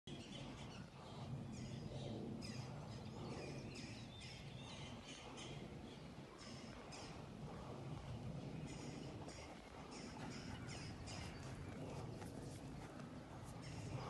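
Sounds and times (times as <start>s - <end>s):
birds chirping and singing: 0.1s - 7.6s, 8.4s - 14.0s
low steady outdoor rumble: 0.1s - 14.0s.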